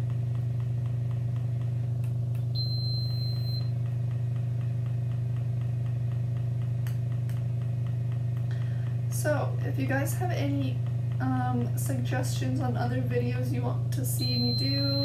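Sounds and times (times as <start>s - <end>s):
pump motor hum: 0.0s - 15.0s.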